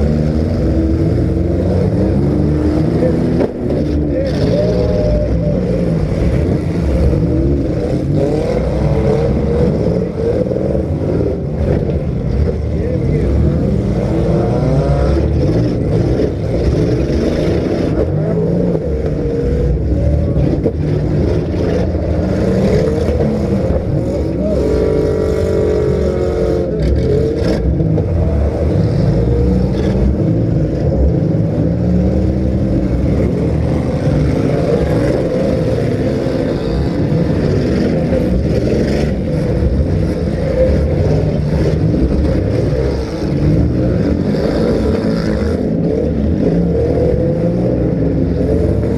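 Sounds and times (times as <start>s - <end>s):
car engines revving hard: 0.0s - 48.9s.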